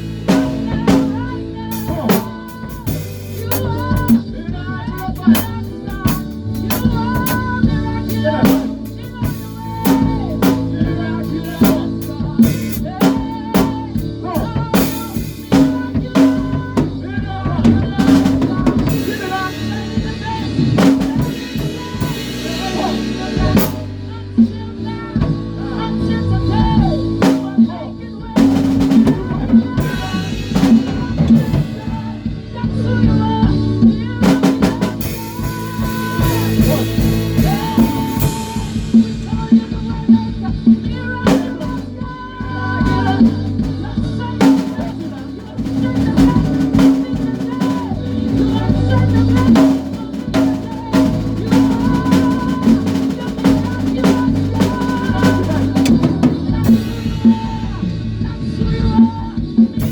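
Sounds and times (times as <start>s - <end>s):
drum kit hits: 0.0s - 24.6s, 28.4s - 59.9s
bass guitar: 0.0s - 59.9s
live band playing: 0.0s - 59.9s.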